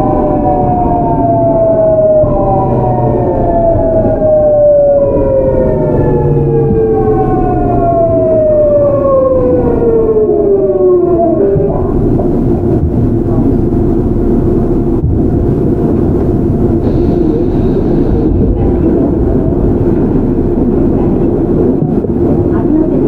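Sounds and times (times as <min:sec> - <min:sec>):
train motors whining: 0:00.0 - 0:23.0.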